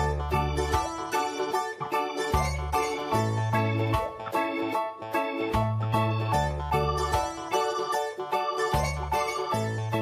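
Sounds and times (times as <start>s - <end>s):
upbeat music with bass line: 0.0s - 10.0s.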